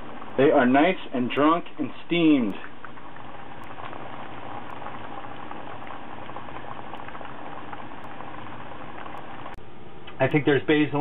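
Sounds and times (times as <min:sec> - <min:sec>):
liquid boiling in a pot: 0:00.0 - 0:10.0.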